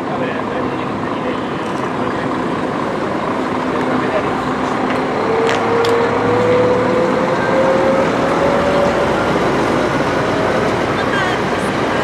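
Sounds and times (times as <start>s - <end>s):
diesel coach engine and road noise: 0.0s - 12.0s
rising whine: 2.0s - 12.0s.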